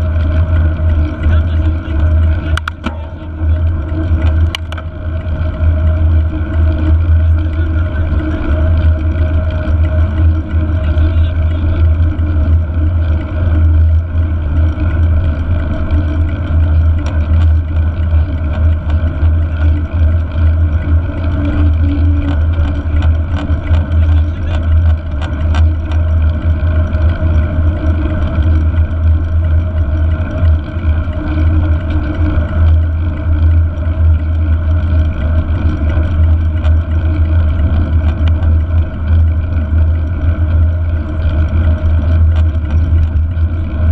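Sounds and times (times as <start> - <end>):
tyre noise on asphalt: 0.0 - 43.9.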